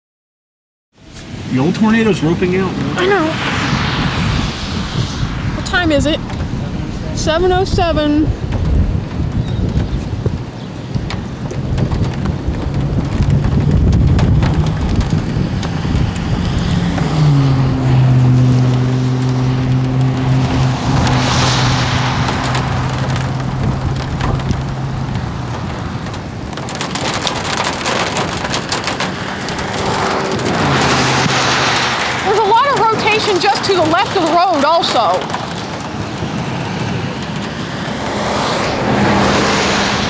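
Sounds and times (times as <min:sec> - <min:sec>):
rain drops hitting: 0:01.1 - 0:40.0
heavy rain on a car: 0:01.4 - 0:03.3, 0:05.7 - 0:40.0
low rumble of thunder: 0:02.7 - 0:40.0.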